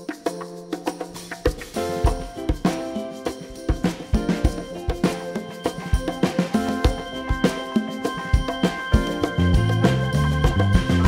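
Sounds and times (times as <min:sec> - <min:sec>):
steady drum beat: 0:00.0 - 0:11.0
outro music: 0:02.0 - 0:11.0.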